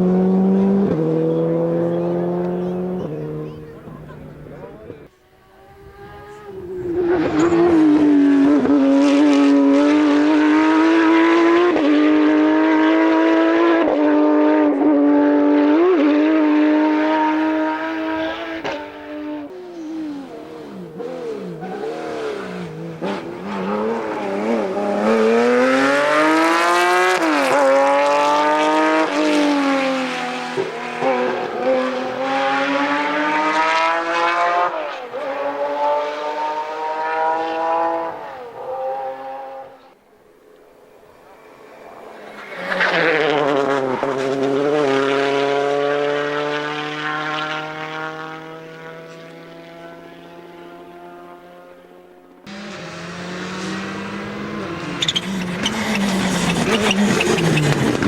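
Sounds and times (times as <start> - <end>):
rally car engine revving: 0.0 - 39.9, 42.0 - 58.0.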